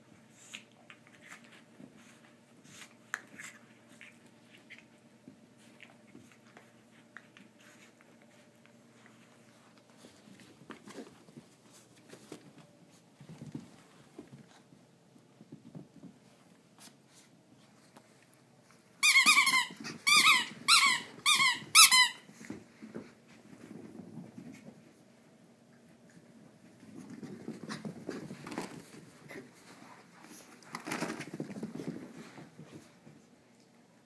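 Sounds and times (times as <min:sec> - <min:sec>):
dogs scuffling: 0:00.2 - 0:33.8.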